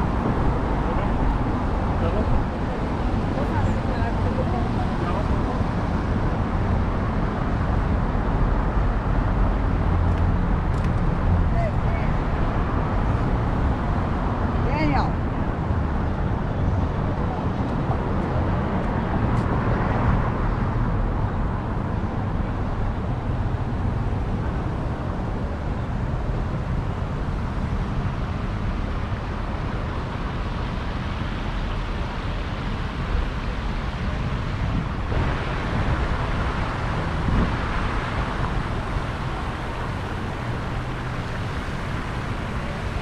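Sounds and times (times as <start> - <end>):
traffic passing cars: 0.0 - 43.0.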